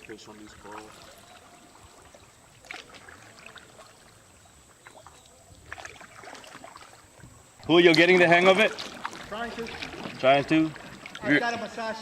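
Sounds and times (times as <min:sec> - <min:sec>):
paddle splashes and drips: 0:00.0 - 0:12.0.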